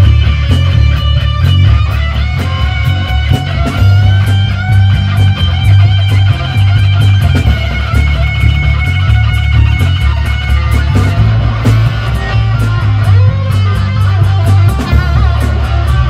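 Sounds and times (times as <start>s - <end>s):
bass line: 0.0s - 16.0s
drums: 0.0s - 16.0s
electric guitar: 0.0s - 16.0s.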